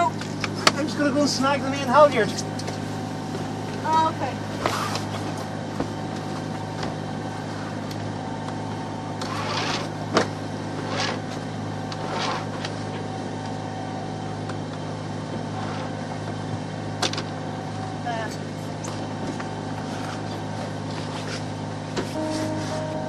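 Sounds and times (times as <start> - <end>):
diesel boat engine drone: 0.0 - 23.0.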